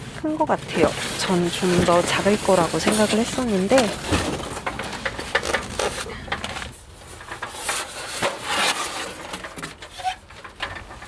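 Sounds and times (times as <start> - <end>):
packaging rustling and scraping: 0.6 - 10.8.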